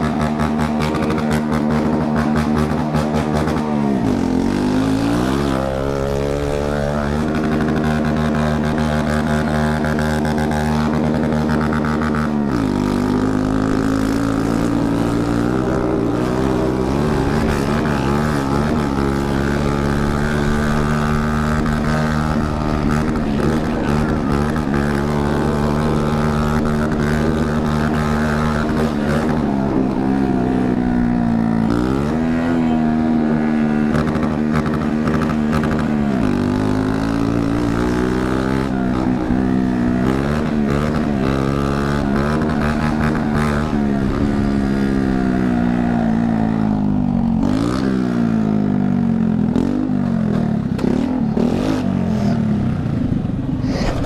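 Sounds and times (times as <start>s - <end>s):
moped engine droning: 0.0s - 54.0s.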